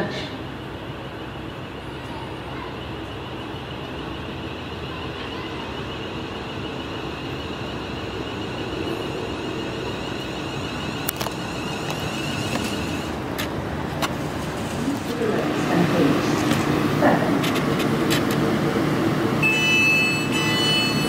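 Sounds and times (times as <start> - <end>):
electric train slowing to a stop: 0.0 - 21.0
high steady whine: 0.0 - 21.0.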